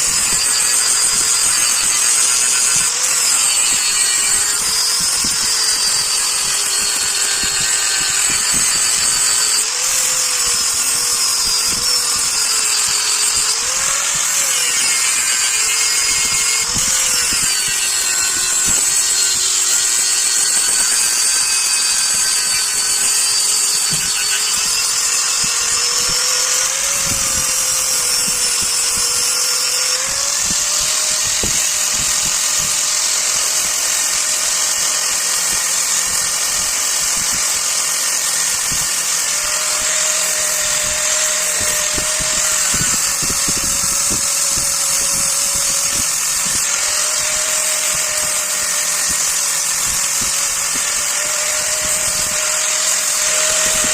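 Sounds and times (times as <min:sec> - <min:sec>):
electric grinder grinding steel: 0:00.0 - 0:53.9.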